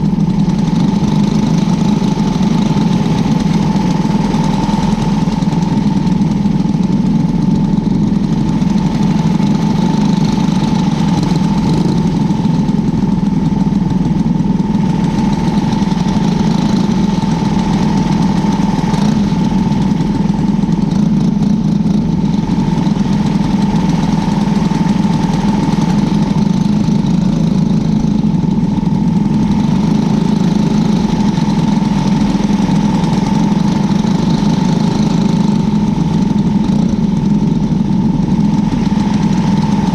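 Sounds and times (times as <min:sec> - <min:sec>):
race car engine running steadily: 0:00.0 - 0:39.9.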